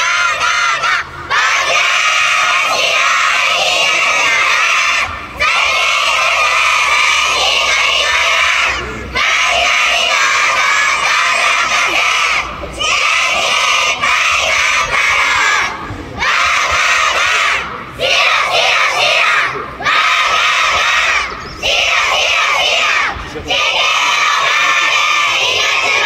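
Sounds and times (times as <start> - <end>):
children shouting a cheer: 0.0 - 26.0.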